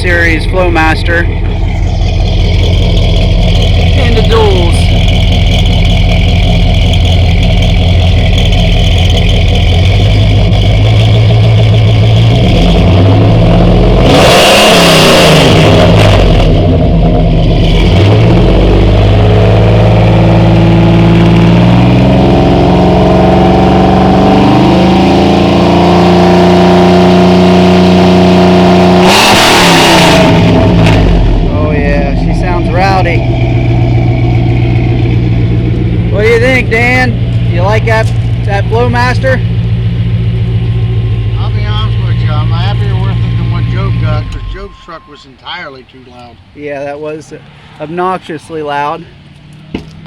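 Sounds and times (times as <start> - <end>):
pickup engine idling and revving: 0.0 - 50.0.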